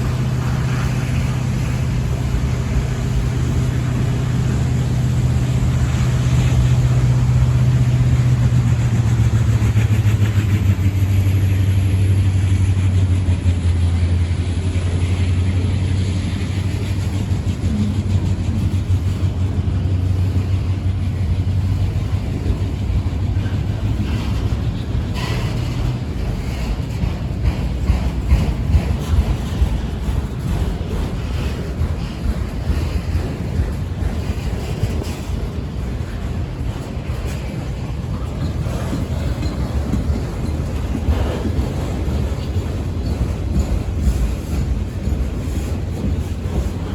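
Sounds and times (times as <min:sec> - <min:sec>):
diesel locomotive engine droning: 0:00.0 - 0:46.9
rumble: 0:00.0 - 0:46.9.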